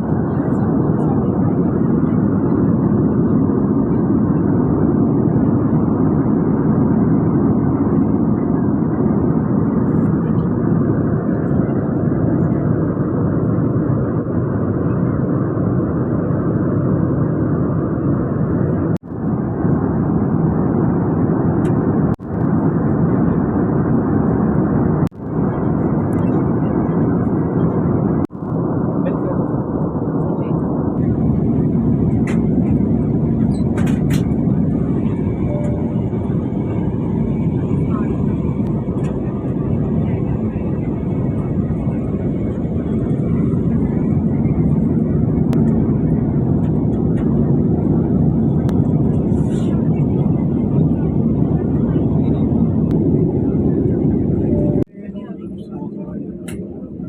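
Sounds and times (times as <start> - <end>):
airliner cabin roar: 0.0 - 57.0.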